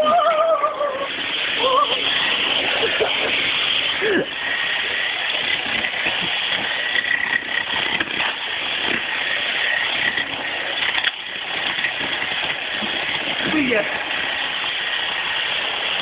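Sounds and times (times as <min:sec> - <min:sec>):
jackhammer hammering concrete: 0:01.1 - 0:16.0.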